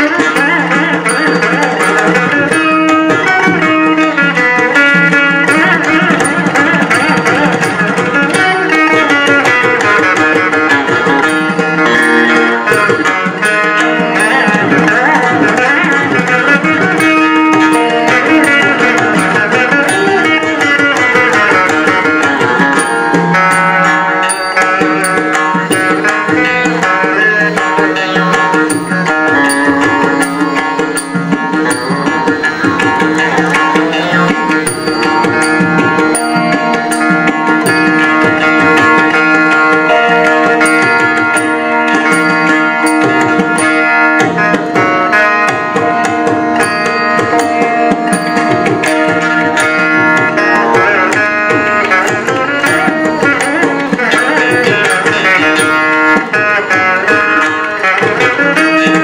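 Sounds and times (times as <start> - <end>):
plucked veena melody: 0.0 - 59.0.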